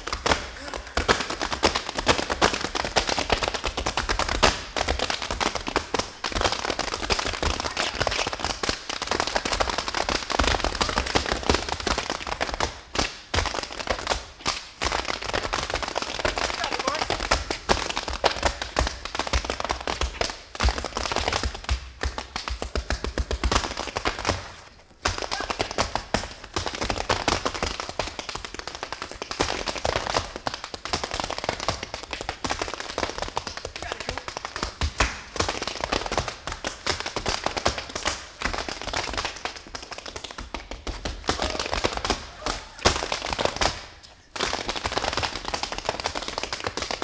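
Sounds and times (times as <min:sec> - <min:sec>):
tap shoes on wooden stage: 0:00.0 - 0:47.0.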